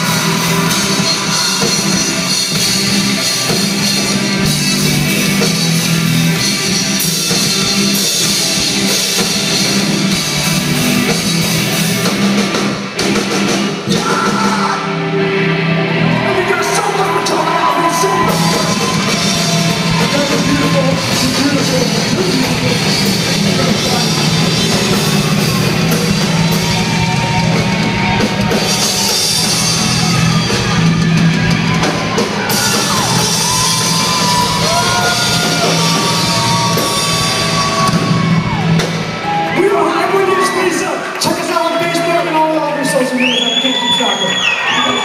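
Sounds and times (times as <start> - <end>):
rock band playing live: 0.0 - 45.0.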